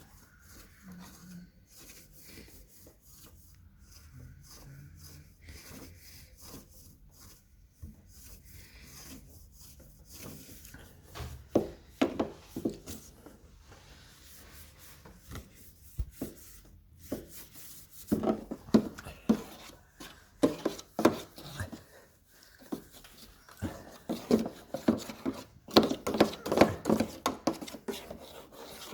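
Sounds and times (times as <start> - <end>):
rubbing and scraping: 0.0 - 28.9.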